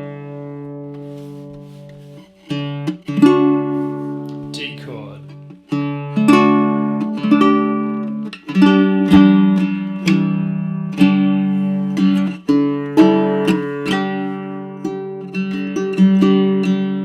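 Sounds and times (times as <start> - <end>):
ukulele chords ringing: 0.0 - 17.0.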